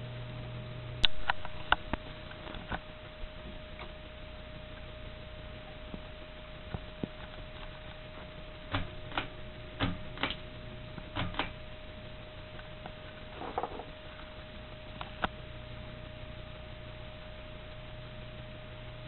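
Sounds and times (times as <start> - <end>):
ceiling fan humming: 0.0 - 19.0.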